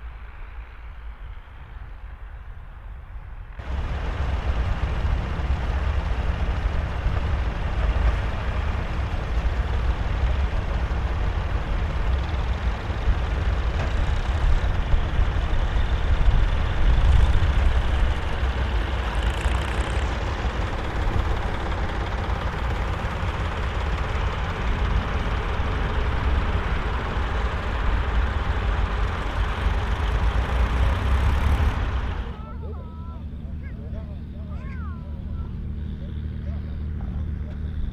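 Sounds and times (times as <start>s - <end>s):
tractor diesel engine rumbling: 3.5s - 37.9s.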